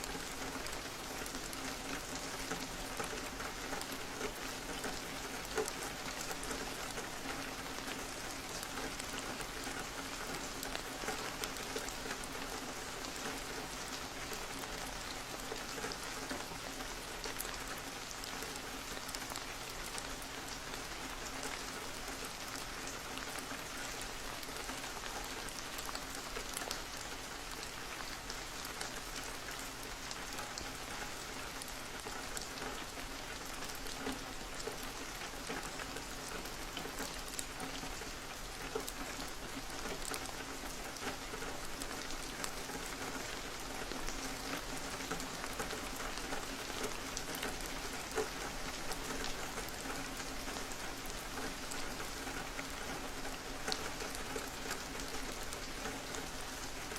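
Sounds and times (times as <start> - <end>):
rain on a window: 0.0 - 56.9.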